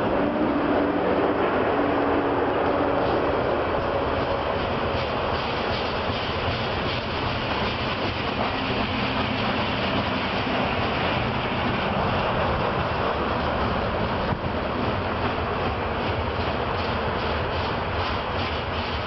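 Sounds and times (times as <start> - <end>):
steel wheels on rail: 0.0 - 19.0.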